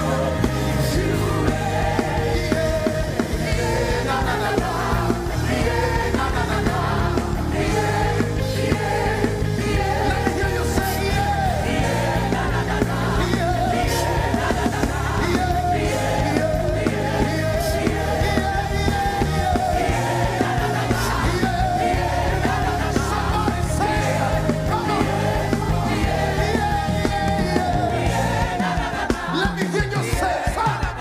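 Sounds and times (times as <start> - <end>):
band with bass and cymbals: 0.0 - 31.0.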